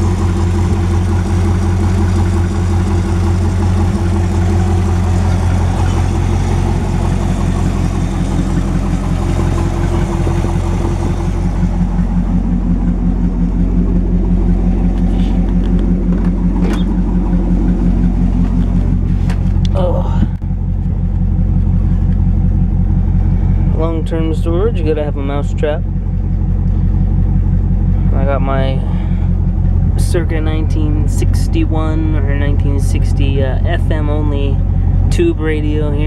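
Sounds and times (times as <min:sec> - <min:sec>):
car engine idling: 0:00.0 - 0:36.0
engine knocks: 0:00.0 - 0:36.0.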